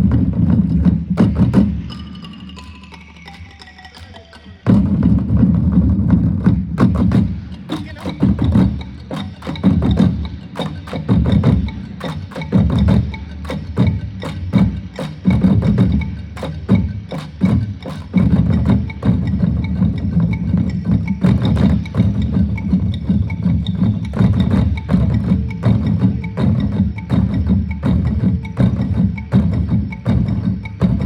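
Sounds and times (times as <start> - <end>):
hand drums played fast: 0.0 - 3.0, 4.6 - 31.0.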